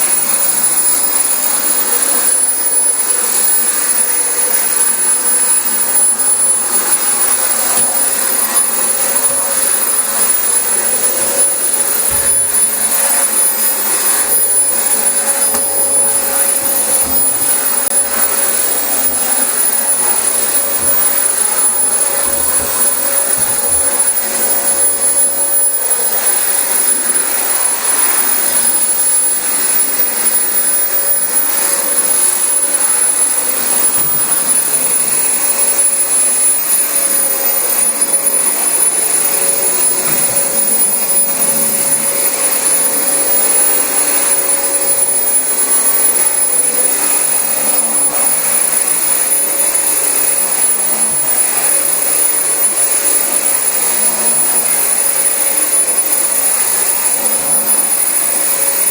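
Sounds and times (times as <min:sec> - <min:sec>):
vacuum cleaner running on carpet: 0:00.0 - 0:58.9.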